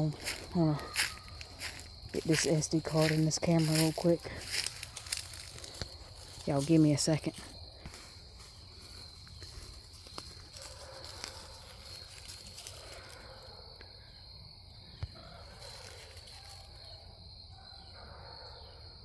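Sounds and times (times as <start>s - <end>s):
insect chorus trilling: 0.0s - 19.0s.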